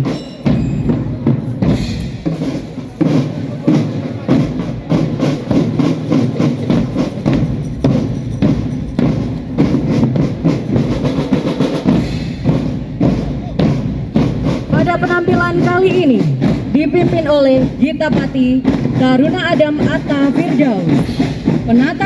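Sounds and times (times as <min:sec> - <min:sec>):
bass drum: 0:00.0 - 0:22.0
marching drum band playing: 0:00.0 - 0:22.0.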